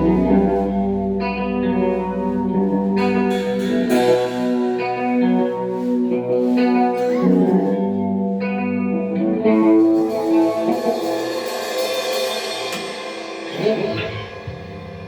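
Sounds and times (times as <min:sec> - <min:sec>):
guitar chords with effects: 0:00.0 - 0:15.0.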